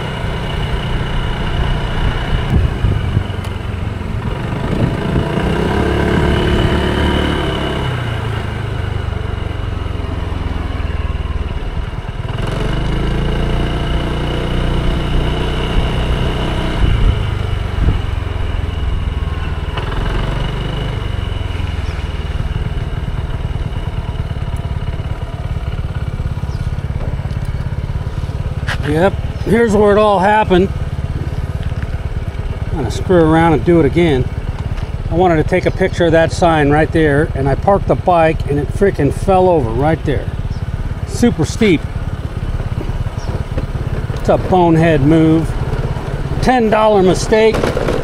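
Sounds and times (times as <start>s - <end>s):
scooter engine revving: 0.0s - 48.0s.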